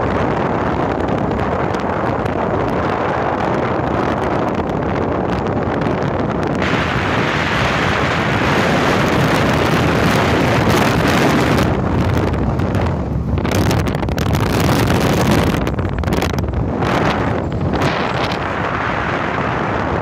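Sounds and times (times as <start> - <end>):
vehicle road and engine noise: 0.0 - 20.0
wind rushing over microphone: 0.0 - 20.0.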